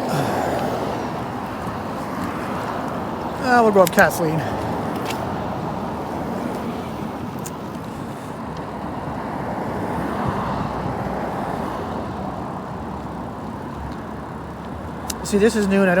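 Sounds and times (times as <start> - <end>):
passing traffic: 0.0 - 16.0
tyres rushing on road: 0.0 - 16.0
wind: 0.0 - 16.0.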